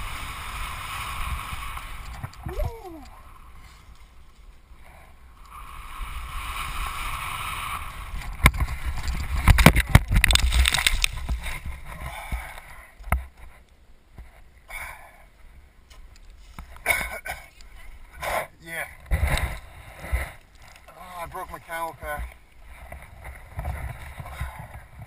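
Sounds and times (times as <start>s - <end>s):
wind noise: 0.0s - 13.6s, 16.3s - 20.5s, 21.2s - 25.0s
tyre noise on dirt trail: 0.0s - 25.0s.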